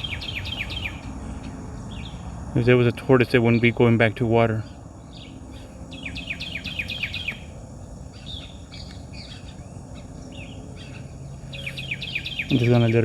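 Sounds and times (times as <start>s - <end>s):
birds chirping: 0.0s - 13.0s
faint insect hum: 0.0s - 13.0s
songbird singing: 0.0s - 13.0s.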